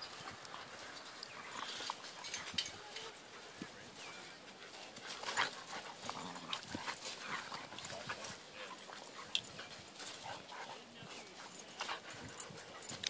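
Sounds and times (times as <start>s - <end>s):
dogs scuffling on grass: 0.0s - 13.0s.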